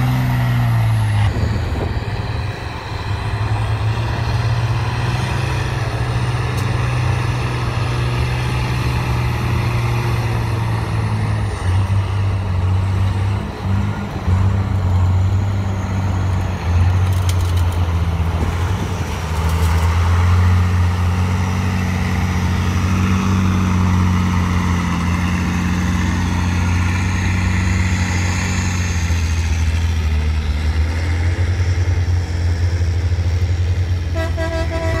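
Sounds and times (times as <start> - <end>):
truck engine working hard: 0.0 - 35.0.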